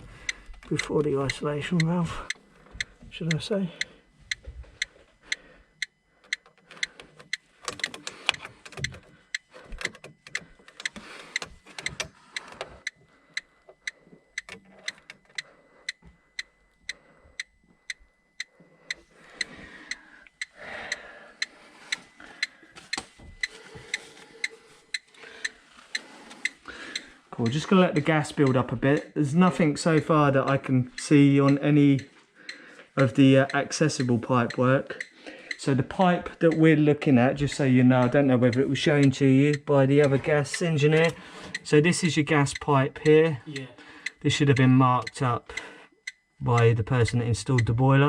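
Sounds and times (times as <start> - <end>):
gas detector ticking: 0.0 - 48.0.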